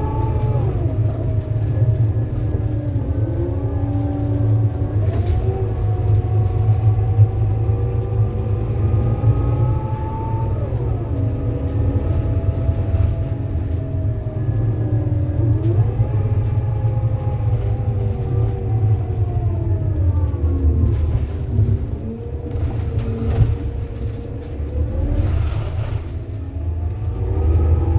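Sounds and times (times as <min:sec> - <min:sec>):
bus engine rumbling: 0:00.0 - 0:27.9.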